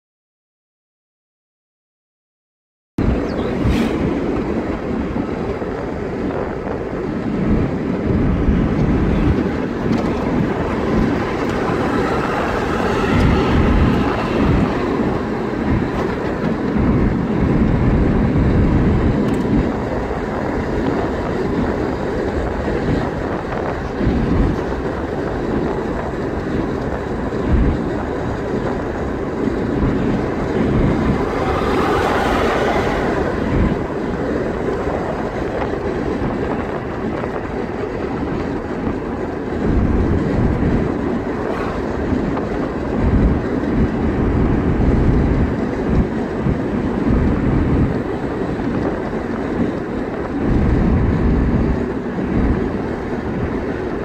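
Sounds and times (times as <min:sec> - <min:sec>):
car road noise rumble: 0:03.0 - 0:54.0.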